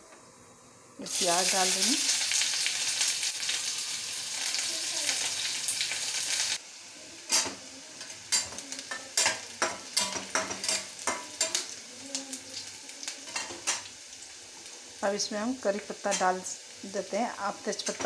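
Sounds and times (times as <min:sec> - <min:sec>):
onion sizzling in hot oil: 0:01.0 - 0:18.0.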